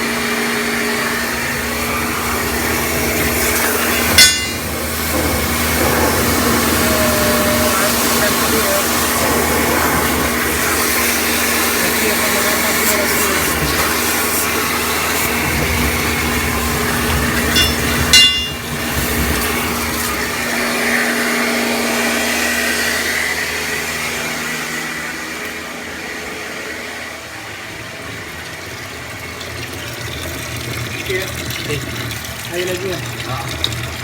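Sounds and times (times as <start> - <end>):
small motor-driven machine running: 0.0 - 34.0.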